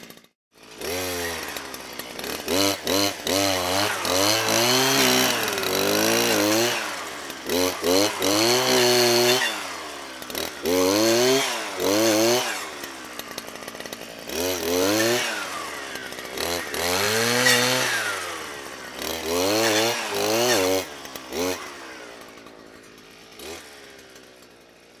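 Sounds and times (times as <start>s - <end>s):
brushcutter engine revving: 0.0s - 25.0s.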